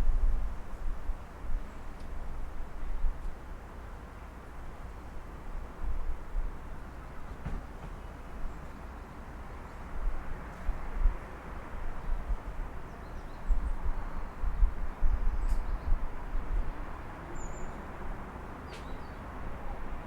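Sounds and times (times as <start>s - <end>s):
distant traffic hum: 3.4s - 20.0s.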